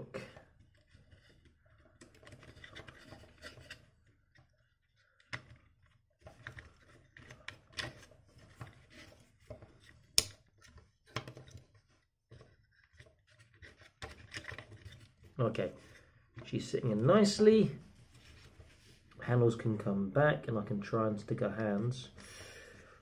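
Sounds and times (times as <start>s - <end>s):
soft rubbing of plastic: 0.4s - 19.4s.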